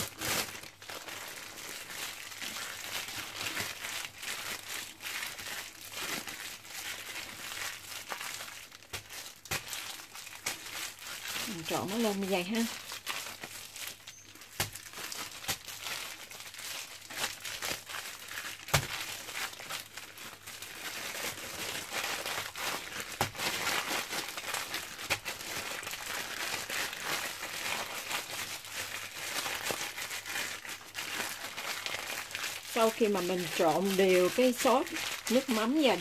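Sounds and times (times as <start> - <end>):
plastic bag rustling: 0.0 - 36.0.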